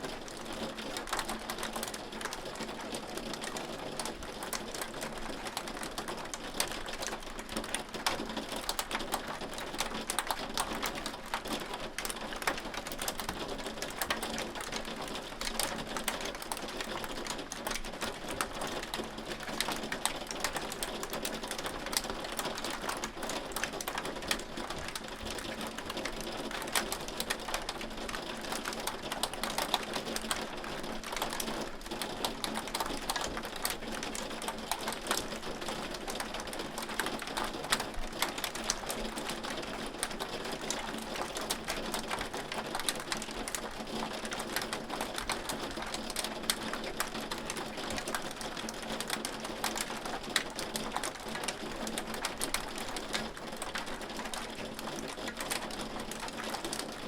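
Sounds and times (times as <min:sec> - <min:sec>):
hail pelting a hard surface: 0:00.1 - 0:57.0.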